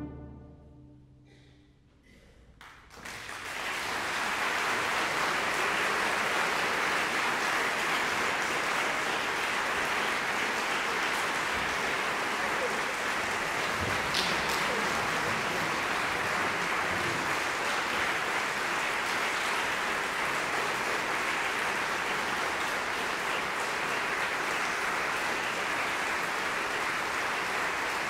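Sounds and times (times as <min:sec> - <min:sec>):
audience applauding: 0:02.6 - 0:28.0.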